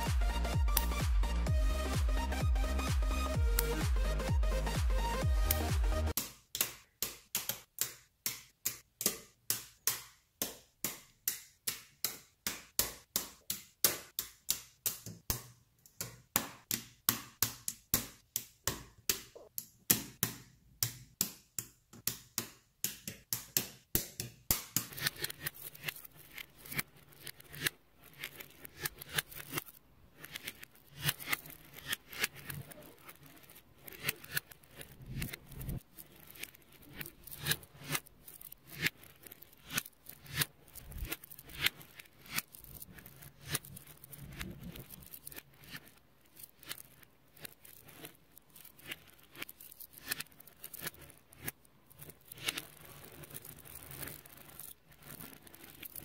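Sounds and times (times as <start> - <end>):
magnetic balls clicking together: 0.0 - 56.0.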